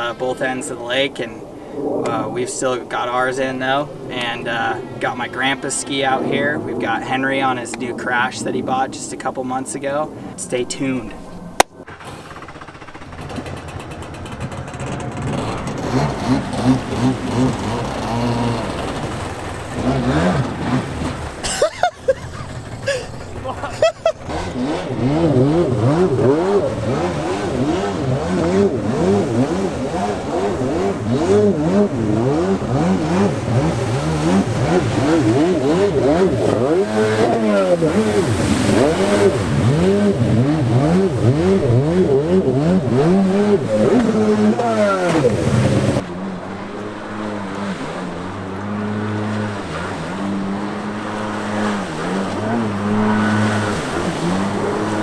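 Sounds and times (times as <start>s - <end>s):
jet ski engines revving: 0.0s - 55.0s.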